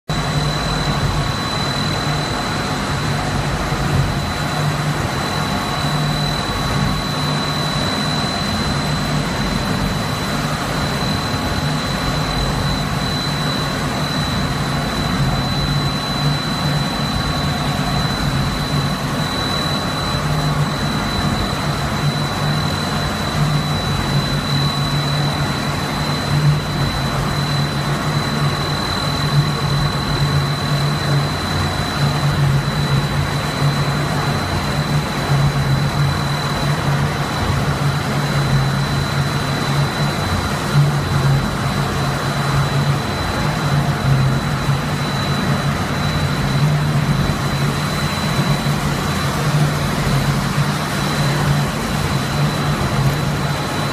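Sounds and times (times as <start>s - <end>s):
machine hum: 0.1s - 53.9s
thin high whine: 0.1s - 53.9s.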